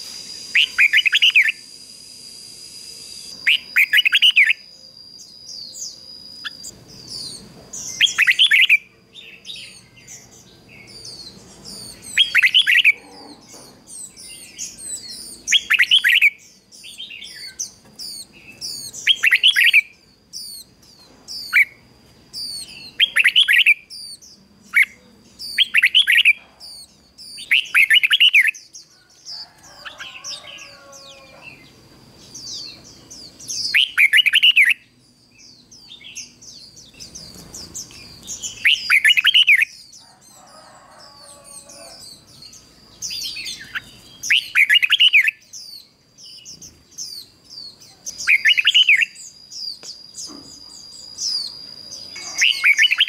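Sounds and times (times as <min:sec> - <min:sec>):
bird singing song phrases: 0:00.0 - 0:53.0
faint high bird chirps: 0:00.0 - 0:53.0.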